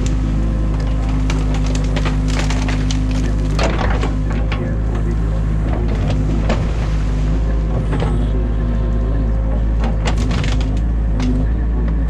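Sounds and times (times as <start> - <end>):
branches snapping: 0.0 - 8.2, 9.7 - 11.5
excavator diesel engine running: 0.0 - 12.0.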